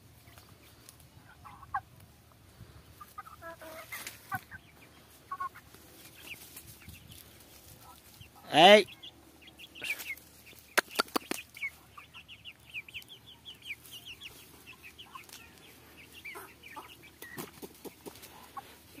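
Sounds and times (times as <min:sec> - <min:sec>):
young chickens chirping: 0:00.0 - 0:19.0.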